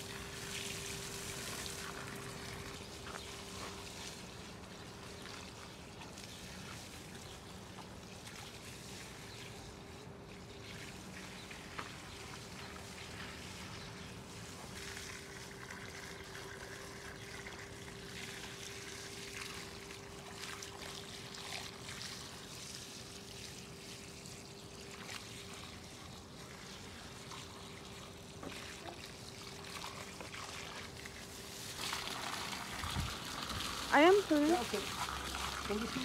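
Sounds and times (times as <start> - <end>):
hose water trickling onto soil: 0.0 - 36.0.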